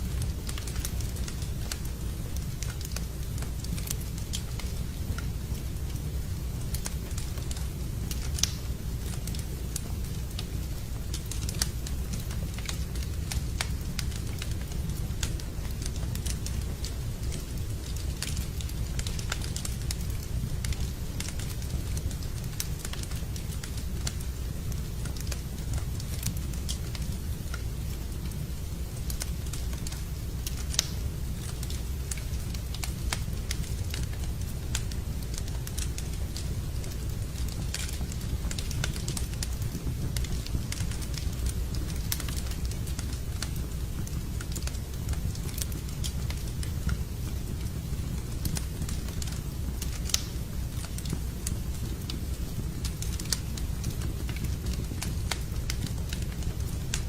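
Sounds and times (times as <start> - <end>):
campfire crackling and popping: 0.0 - 57.0
low fire rumble: 0.0 - 57.0.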